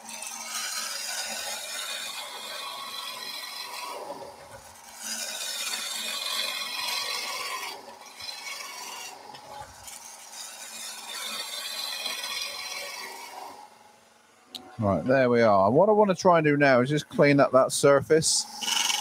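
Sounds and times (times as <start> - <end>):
lathe tool cutting wood: 0.0 - 15.2, 18.3 - 19.0.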